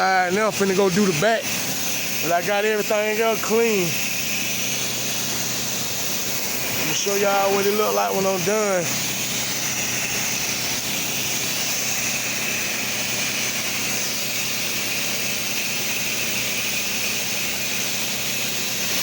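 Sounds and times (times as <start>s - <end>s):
pressure washer engine humming: 0.0s - 19.0s
water spraying hiss: 0.4s - 19.0s.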